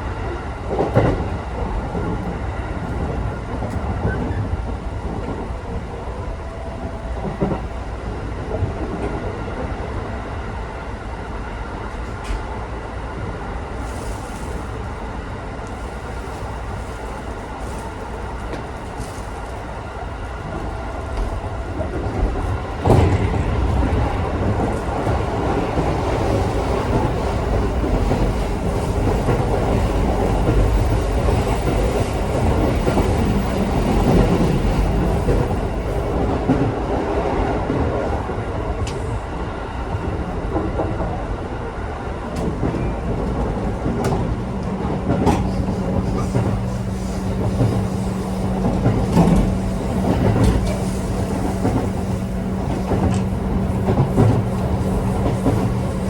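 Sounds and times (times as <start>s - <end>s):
train wheels rumbling on track: 0.0s - 56.0s
rail joint clicks: 0.7s - 9.9s, 11.8s - 12.7s, 15.6s - 41.3s, 42.0s - 56.0s.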